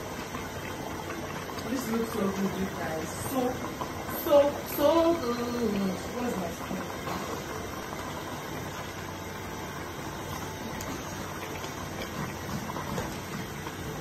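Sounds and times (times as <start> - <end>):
soup boiling and bubbling: 0.0 - 14.0.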